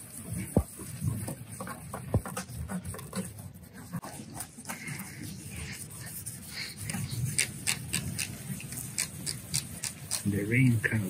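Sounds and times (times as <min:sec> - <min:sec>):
toothbrush scrubbing plastic: 0:00.0 - 0:11.0.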